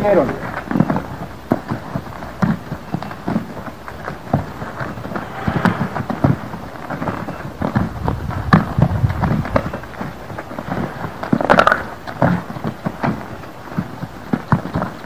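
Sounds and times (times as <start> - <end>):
horse hooves thudding in sand: 0.0 - 15.0.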